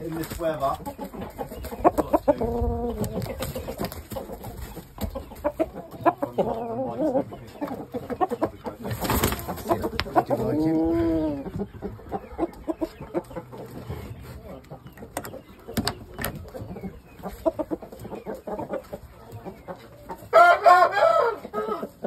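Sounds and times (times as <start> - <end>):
chickens clucking: 0.0 - 22.0
chicken calling: 0.6 - 22.0.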